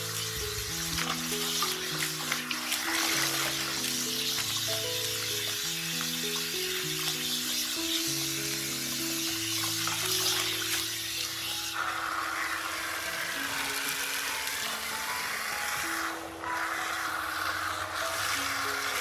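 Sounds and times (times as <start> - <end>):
background music of sustained notes: 0.0 - 19.0
hose water running into metal bowl: 0.0 - 19.0.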